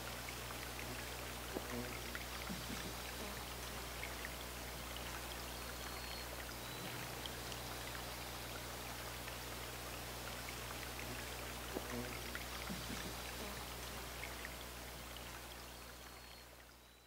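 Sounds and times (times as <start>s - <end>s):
water running: 0.0s - 16.3s
small drips and splashes: 0.0s - 17.0s.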